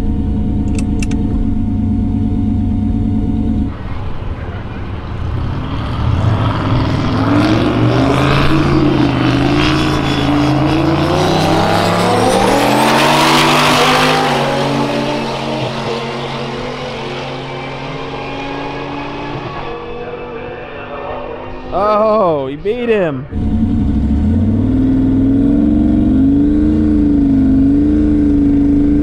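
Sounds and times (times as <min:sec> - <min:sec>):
race car engines accelerating: 0:00.0 - 0:29.0
turbo whine: 0:00.0 - 0:29.0.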